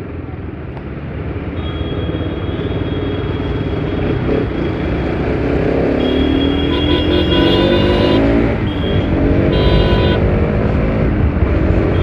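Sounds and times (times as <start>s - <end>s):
city traffic: 0.0s - 12.0s.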